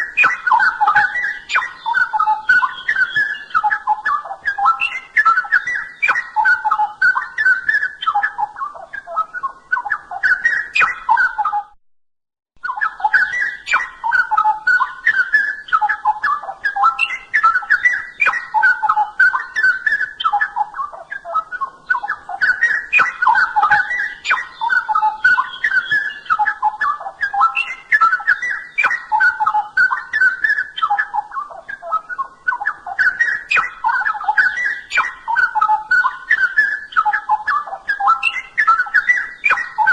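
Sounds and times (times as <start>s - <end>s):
songbird singing warbled phrases: 0.0s - 11.8s, 12.6s - 39.9s.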